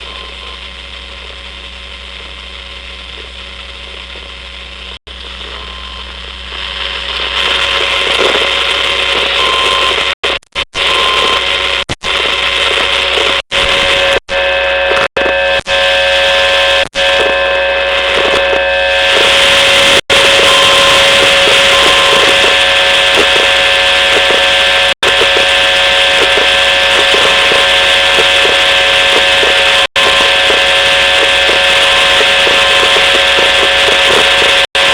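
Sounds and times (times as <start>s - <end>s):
hard drive buzz and whine: 0.0s - 34.9s.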